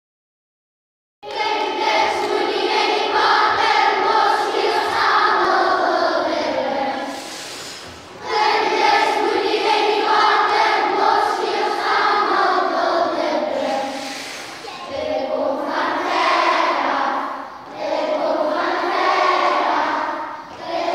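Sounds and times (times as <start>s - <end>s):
children singing together: 1.2s - 20.9s.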